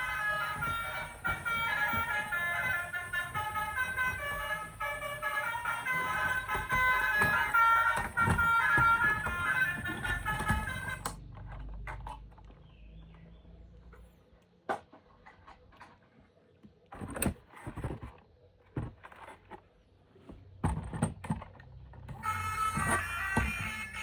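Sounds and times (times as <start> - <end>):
plastic toys and packaging handled: 0.0 - 12.6, 14.7 - 24.0.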